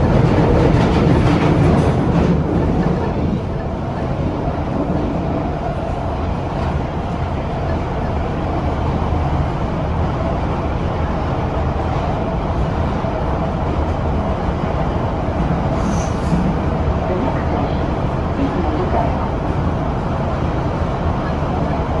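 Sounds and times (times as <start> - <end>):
underground train rumble: 0.0 - 22.0.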